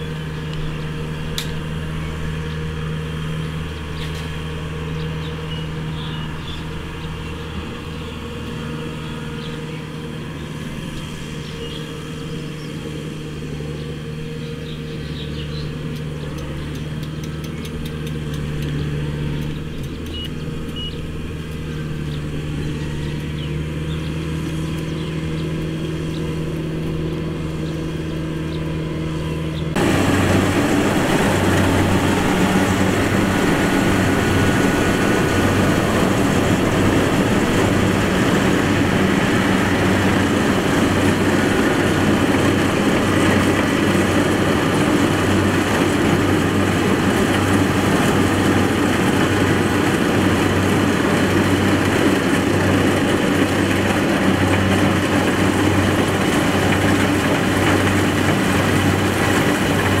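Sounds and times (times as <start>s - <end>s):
combine harvester engine droning: 0.0s - 60.0s
wide mechanical noise: 0.0s - 60.0s.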